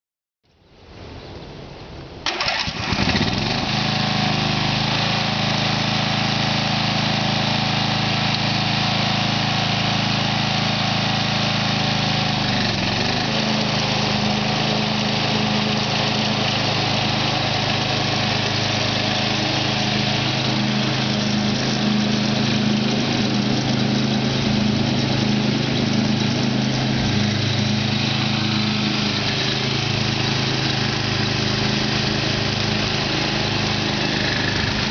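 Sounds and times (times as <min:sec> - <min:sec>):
lawn mower engine cranking: 0:02.2 - 0:34.9
lawn mower engine running: 0:02.2 - 0:34.9.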